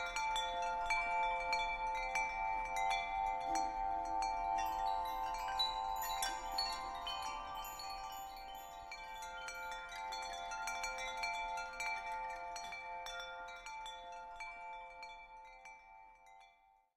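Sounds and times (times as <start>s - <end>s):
wind chimes ringing: 0.0s - 16.7s.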